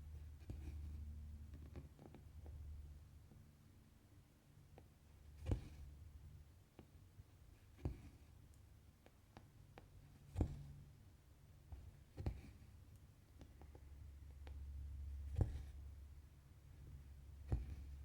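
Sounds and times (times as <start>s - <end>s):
needle tapping through fabric: 0.1s - 3.4s, 4.7s - 6.1s, 6.7s - 18.0s.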